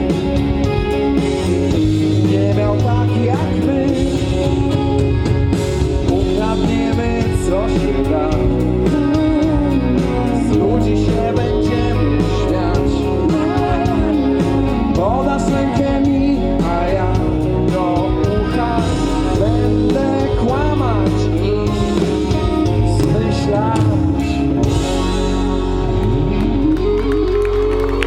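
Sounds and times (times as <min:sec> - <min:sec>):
live pop-rock band playing: 0:00.0 - 0:28.0
regular drum beat: 0:00.0 - 0:28.0.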